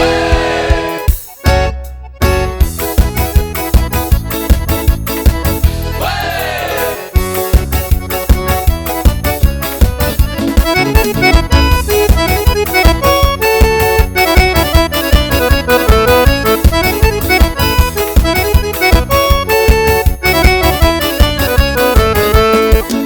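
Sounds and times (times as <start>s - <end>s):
accordion melody: 0.0s - 23.0s
fast steady beat: 0.0s - 23.0s.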